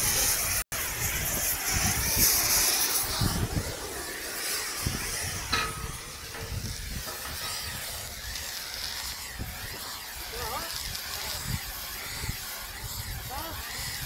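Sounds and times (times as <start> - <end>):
arc welding crackling and sizzling: 0.0 - 14.0.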